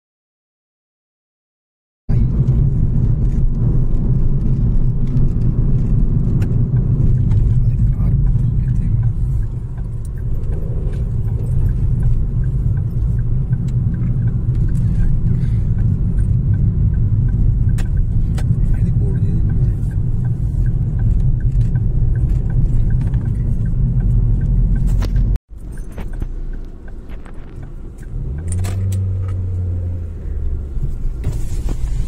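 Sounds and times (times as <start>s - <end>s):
engine and road noise rumble: 2.1s - 32.0s.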